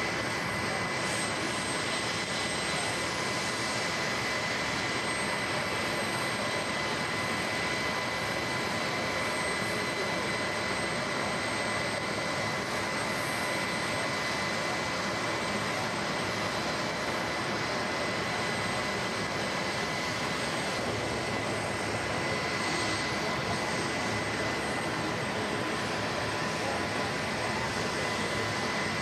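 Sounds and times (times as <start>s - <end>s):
jet turbine roar and whine: 0.0s - 29.0s.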